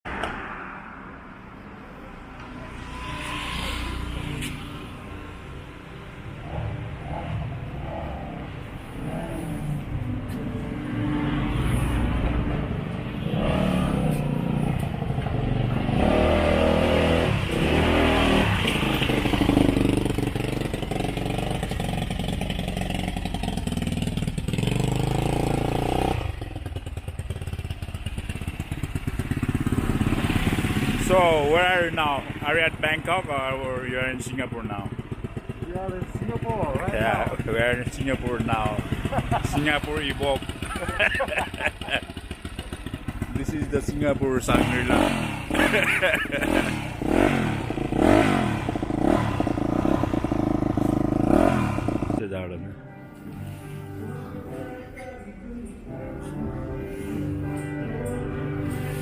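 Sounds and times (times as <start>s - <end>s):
vehicle engine rumbling: 1.2s - 52.2s.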